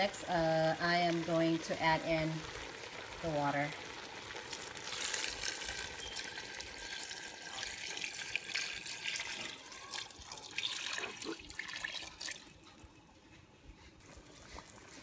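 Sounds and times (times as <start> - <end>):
water pouring into pot: 0.0 - 13.0.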